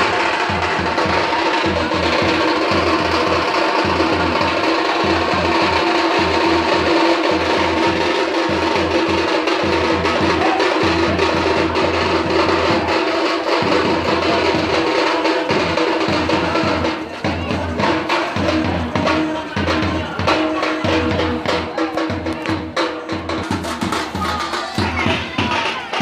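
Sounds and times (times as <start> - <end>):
drums beaten in fast rhythm: 0.0 - 26.0.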